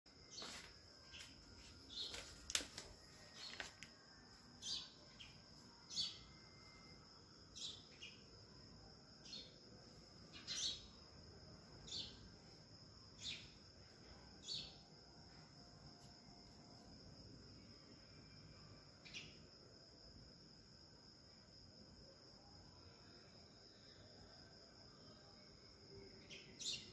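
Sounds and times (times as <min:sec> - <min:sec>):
faint high-pitched whine: 0:00.1 - 0:26.9.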